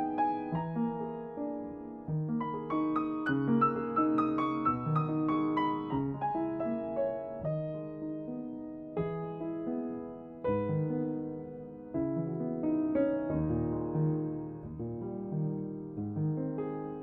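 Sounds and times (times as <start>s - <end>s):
solo piano classical piece: 0.0s - 17.0s.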